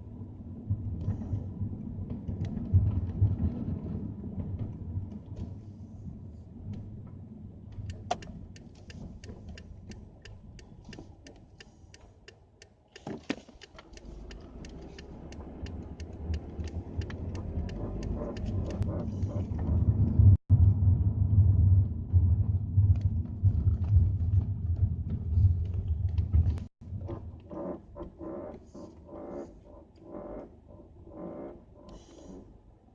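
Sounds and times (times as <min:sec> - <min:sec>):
low rumble: 0:00.0 - 0:10.6, 0:14.3 - 0:31.9
repeated creaking clicks: 0:00.9 - 0:05.8, 0:06.6 - 0:20.8, 0:22.8 - 0:32.9.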